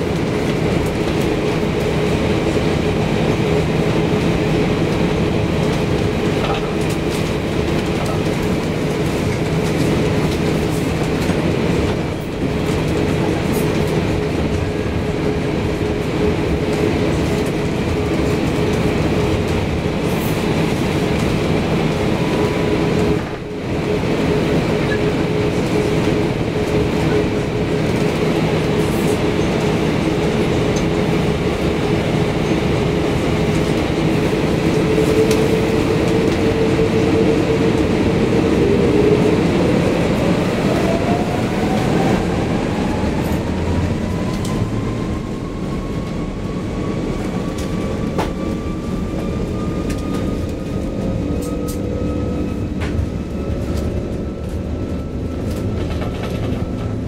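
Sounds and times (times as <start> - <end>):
airplane cabin engine hum: 0.0 - 57.0.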